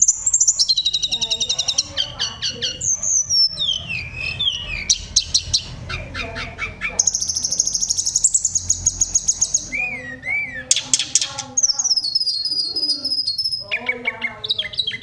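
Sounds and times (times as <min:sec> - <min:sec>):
songbird chirps and trill: 0:00.0 - 0:15.0.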